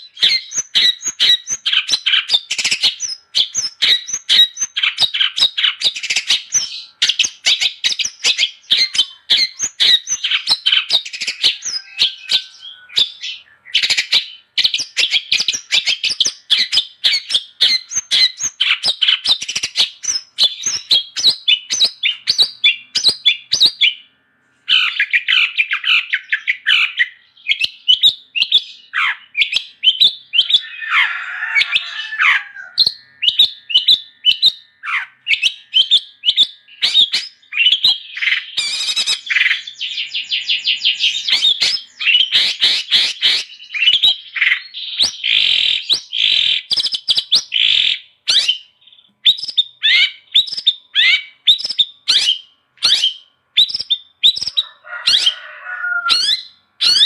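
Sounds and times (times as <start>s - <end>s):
bird singing sharp chirps: 0.0s - 24.1s, 24.7s - 55.5s.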